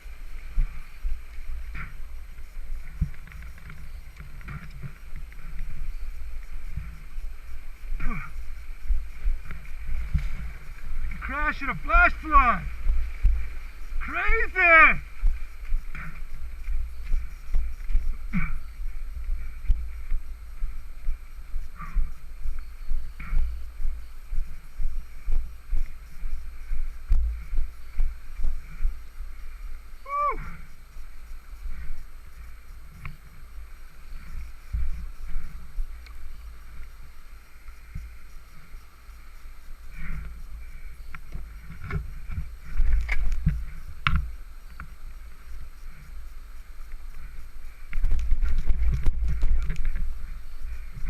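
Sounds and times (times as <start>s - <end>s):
wind buffeting microphone: 0.0s - 37.1s, 39.6s - 51.0s.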